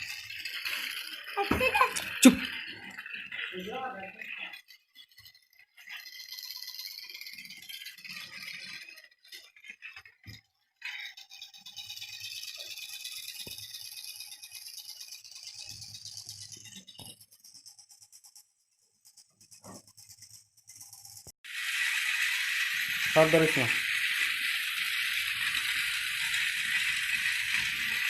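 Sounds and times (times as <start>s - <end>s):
toy train rattling: 0.0s - 28.0s.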